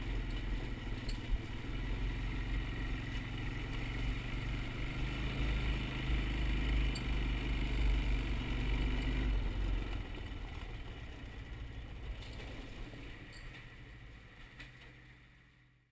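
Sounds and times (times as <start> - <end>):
quad engine running: 0.0 - 15.6.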